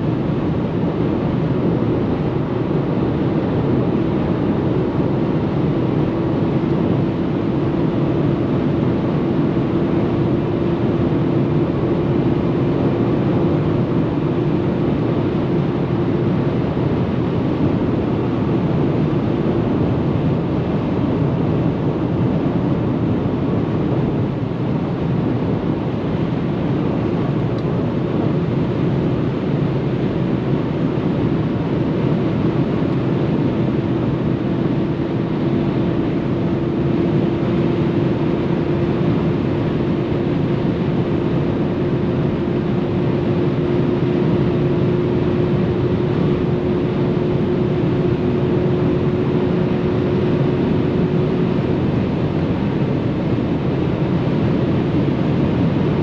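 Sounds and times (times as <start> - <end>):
car engine drone: 0.0 - 56.0
wind and tyre noise: 0.0 - 56.0.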